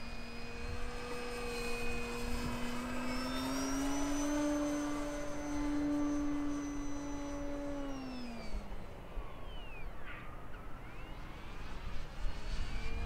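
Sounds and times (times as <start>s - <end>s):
model airplane motor droning: 0.0s - 13.0s.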